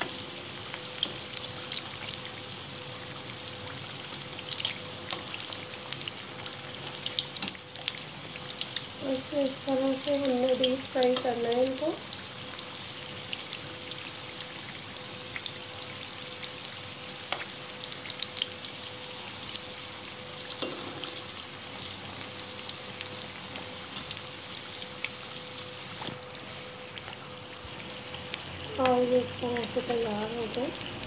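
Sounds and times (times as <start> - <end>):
deep-frying sizzle with pops: 0.0 - 31.0.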